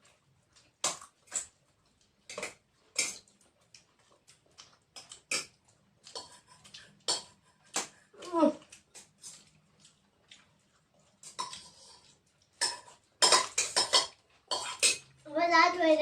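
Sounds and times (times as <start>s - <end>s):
chewing and lip-smacking: 0.0s - 15.2s.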